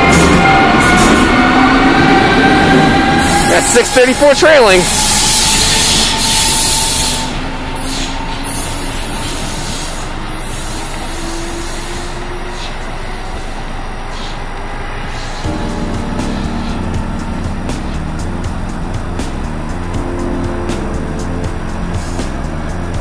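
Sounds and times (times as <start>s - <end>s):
rush of rail noise: 0.0s - 23.0s
train rumble: 0.0s - 23.0s.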